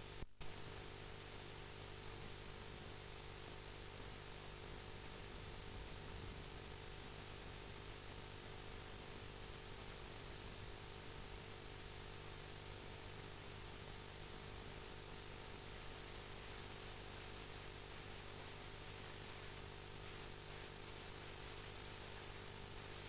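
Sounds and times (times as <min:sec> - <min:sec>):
background hiss: 0:00.0 - 0:23.0
low electrical hum: 0:00.0 - 0:23.0
thin high whine: 0:02.2 - 0:23.0.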